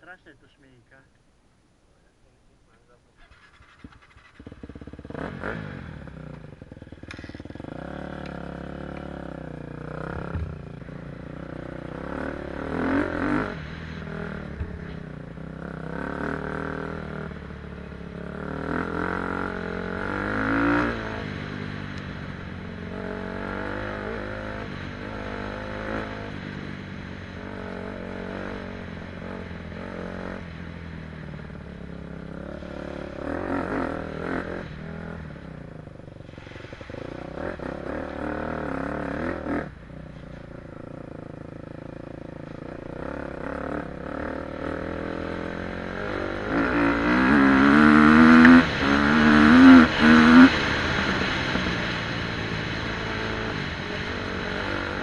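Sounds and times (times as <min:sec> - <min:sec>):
motocross bike engine revving: 0:03.2 - 0:30.6, 0:31.3 - 0:39.8, 0:40.7 - 0:55.0.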